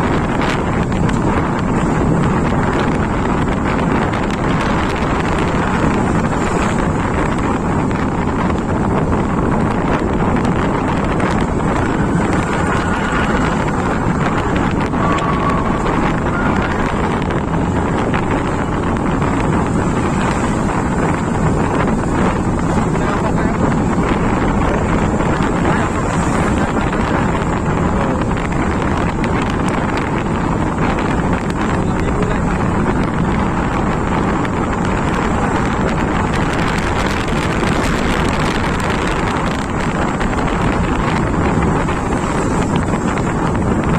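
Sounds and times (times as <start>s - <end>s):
motorcycle road and engine noise: 0.0s - 43.9s
wind buffeting microphone: 0.0s - 43.9s.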